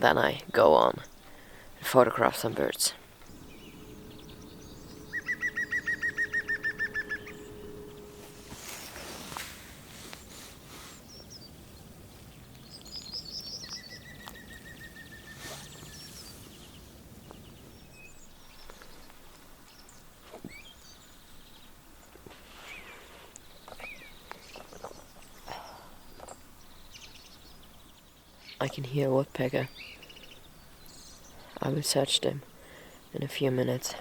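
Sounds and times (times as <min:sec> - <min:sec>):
birds calling and singing: 0:02.4 - 0:33.5.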